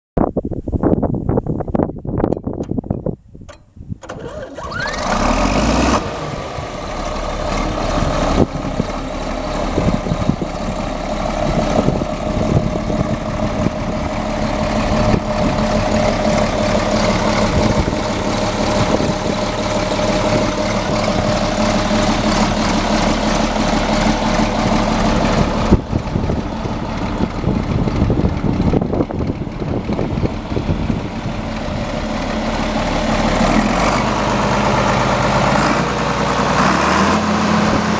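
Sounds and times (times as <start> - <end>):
diesel tractor engine starting and idling: 2.2 - 37.9.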